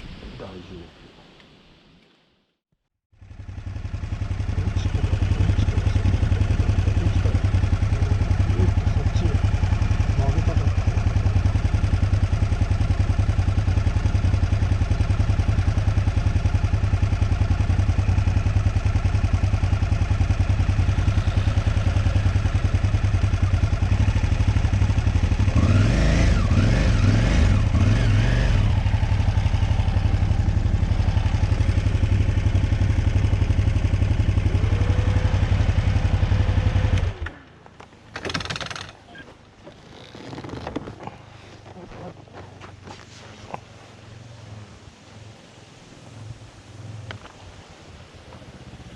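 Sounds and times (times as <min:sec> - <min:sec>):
motorcycle engine running: 0:03.1 - 0:43.0.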